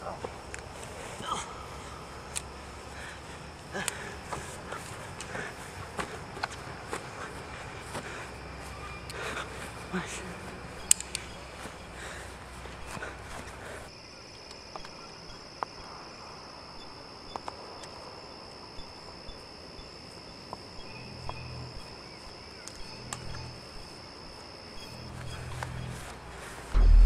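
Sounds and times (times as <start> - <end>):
high-pitched insect trill: 0.0 - 27.0.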